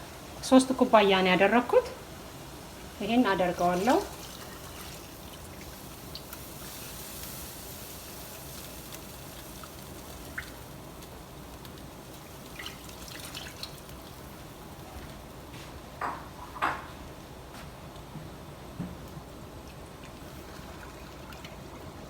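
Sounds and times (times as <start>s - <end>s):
sauce bubbling in a pan: 0.0s - 17.4s, 19.4s - 22.0s.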